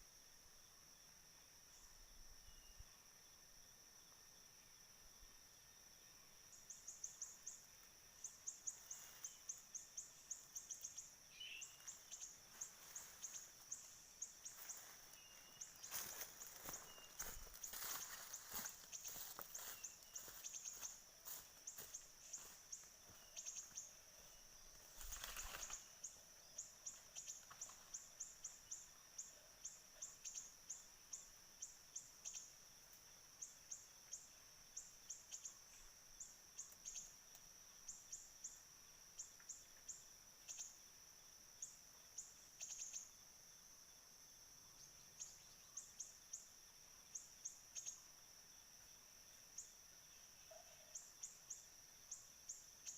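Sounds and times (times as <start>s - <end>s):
high insect drone: 0.0s - 52.9s.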